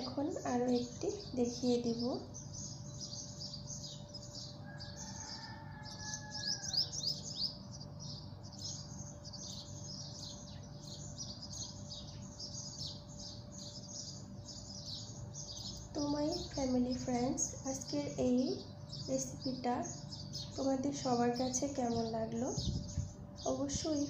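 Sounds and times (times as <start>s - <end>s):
faint steady hum: 0.0s - 24.0s
small birds chirping: 0.0s - 24.0s.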